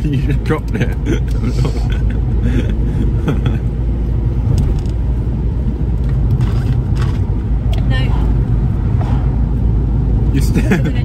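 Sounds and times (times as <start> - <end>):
car engine: 0.0 - 11.0
road noise: 0.0 - 11.0.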